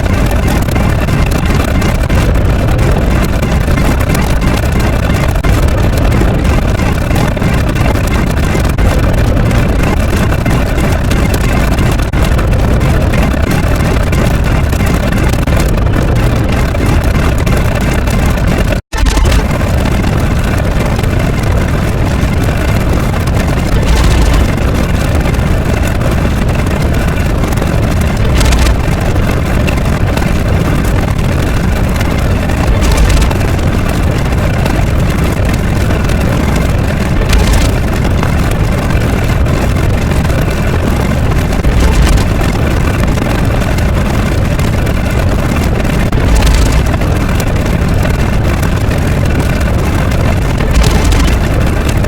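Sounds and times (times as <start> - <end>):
loud low rumbling noise: 0.0 - 52.0.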